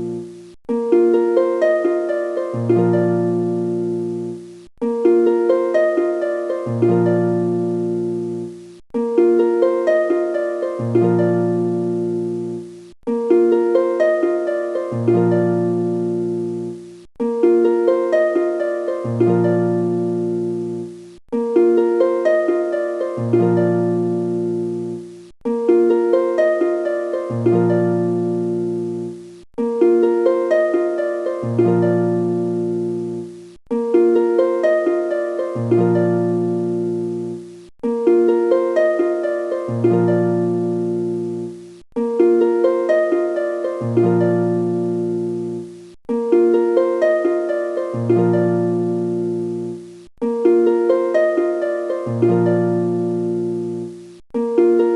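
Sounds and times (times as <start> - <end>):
looping plucked melody: 0.0 - 54.9.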